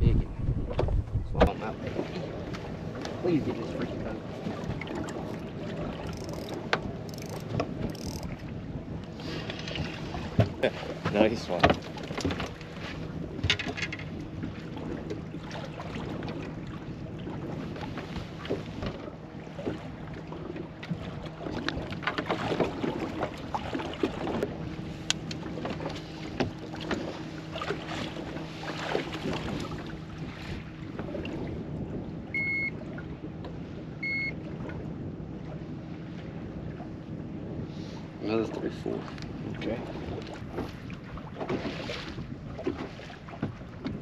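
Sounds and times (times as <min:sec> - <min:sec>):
boat machinery humming: 0:00.0 - 0:44.0.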